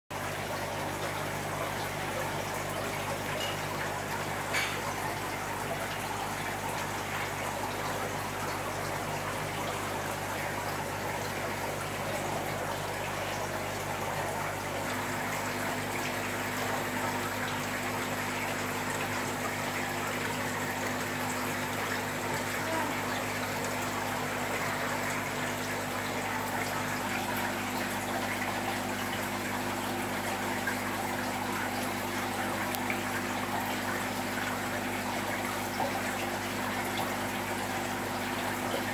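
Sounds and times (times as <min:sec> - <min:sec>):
circulating water rushing: 0:00.1 - 0:38.9
low pump hum: 0:00.1 - 0:38.9.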